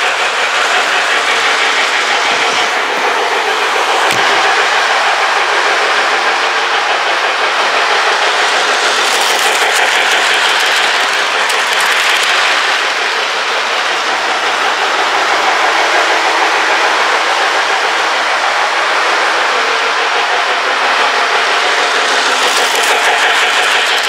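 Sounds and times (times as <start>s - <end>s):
toy train running on track: 0.0s - 24.0s
train clicking and clatter: 0.0s - 24.0s.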